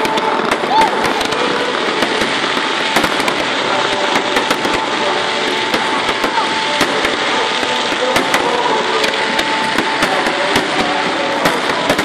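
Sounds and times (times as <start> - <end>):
firework pops: 0.0 - 5.0, 5.6 - 12.0
firework crackle and hiss: 0.0 - 12.0.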